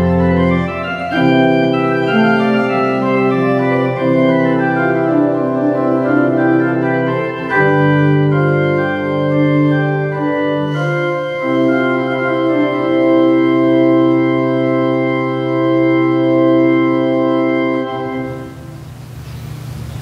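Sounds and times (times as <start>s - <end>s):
church organ chords: 0.0s - 19.1s.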